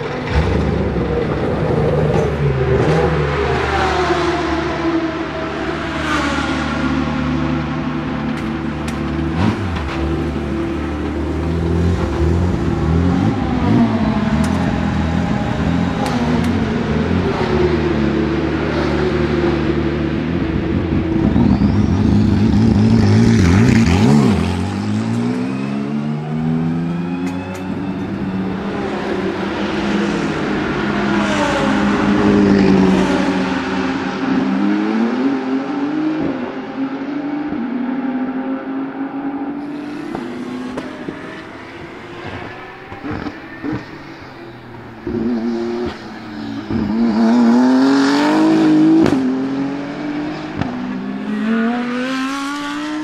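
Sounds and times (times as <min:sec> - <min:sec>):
race car engine passing: 0:00.0 - 0:53.0.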